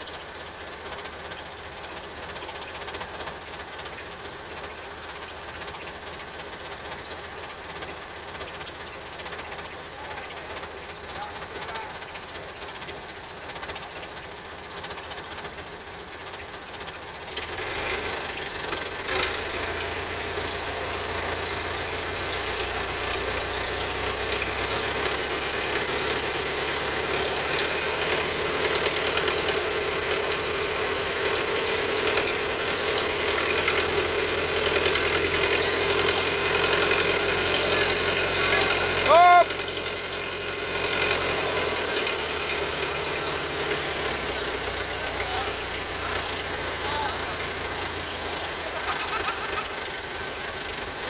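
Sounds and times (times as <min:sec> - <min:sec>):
excavator diesel engine: 0:00.0 - 0:51.0.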